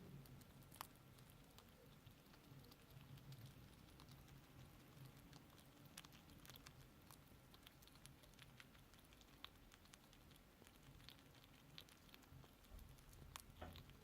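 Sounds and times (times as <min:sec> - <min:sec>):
small animal chewing food: 0:00.0 - 0:14.0.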